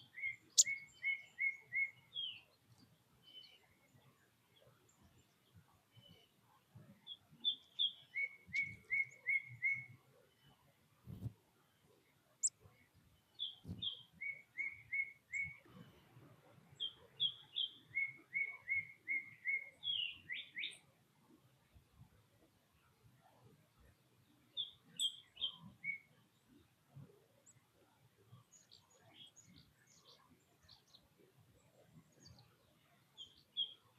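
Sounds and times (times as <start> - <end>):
songbird singing: 0.0 - 21.0, 22.8 - 33.9.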